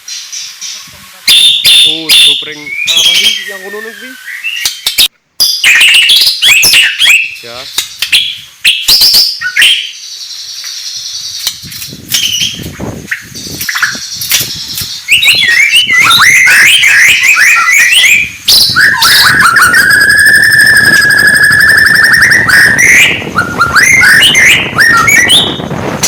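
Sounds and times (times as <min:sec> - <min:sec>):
bird singing whistles and trills: 0:00.0 - 0:26.0.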